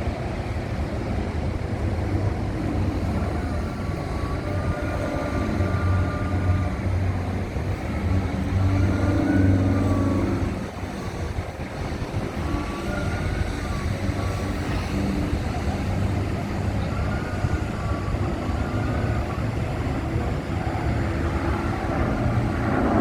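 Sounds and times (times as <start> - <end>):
aircraft engine drone: 0.0 - 23.0
faint wavering whine: 0.0 - 23.0.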